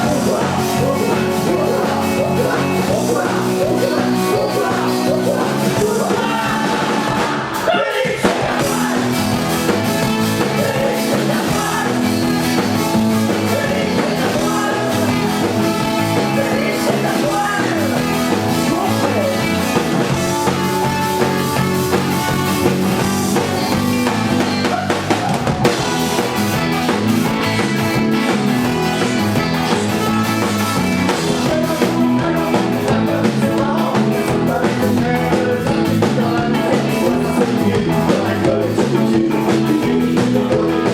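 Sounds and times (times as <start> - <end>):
person singing: 0.0 - 23.8, 28.7 - 40.9
drum kit: 0.0 - 40.9
electric guitars: 0.0 - 40.9.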